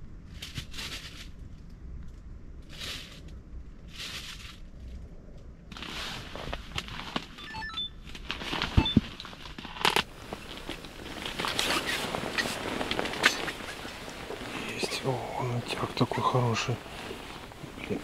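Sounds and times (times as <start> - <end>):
rustling and crackling handling: 0.2 - 7.4, 8.0 - 18.0.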